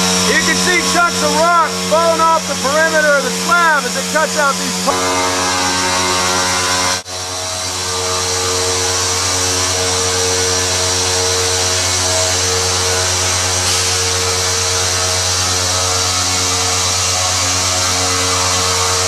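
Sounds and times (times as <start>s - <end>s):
stone-cutting machine grinding whine: 0.0s - 19.0s.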